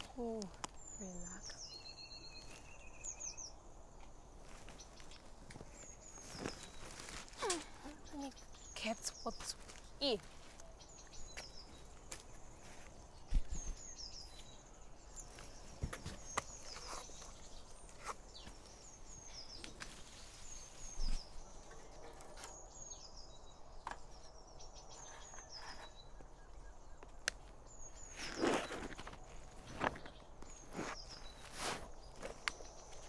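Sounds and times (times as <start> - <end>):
bird singing: 0.0 - 33.0.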